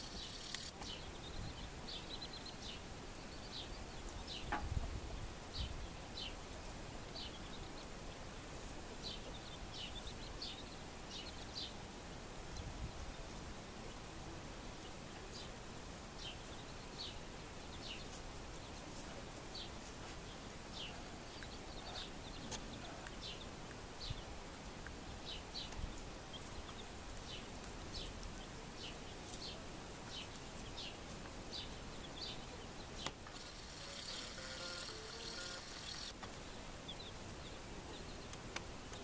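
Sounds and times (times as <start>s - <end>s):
chicks peeping: 0.0s - 11.8s, 16.2s - 39.0s
steady background hiss: 0.0s - 39.0s.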